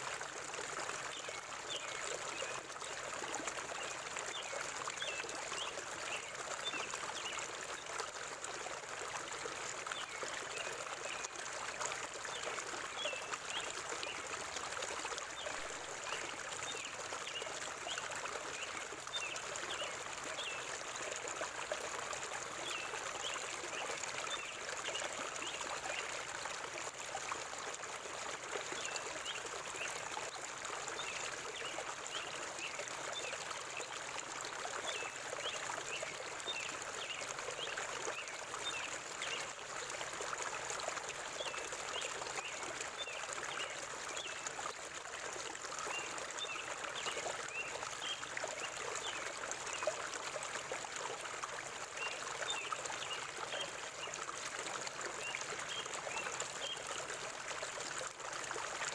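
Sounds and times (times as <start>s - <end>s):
river water babbling: 0.0s - 58.9s.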